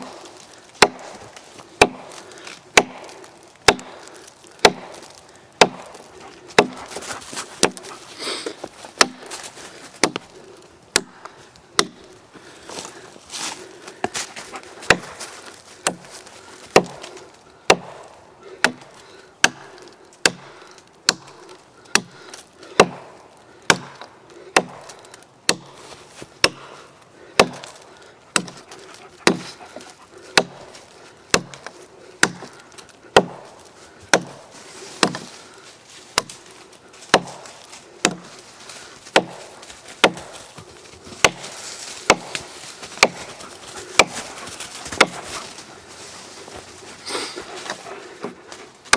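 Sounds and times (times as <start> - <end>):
hatchet chopping wood: 0.0 - 12.2, 14.0 - 35.4, 36.1 - 38.4, 39.1 - 45.6.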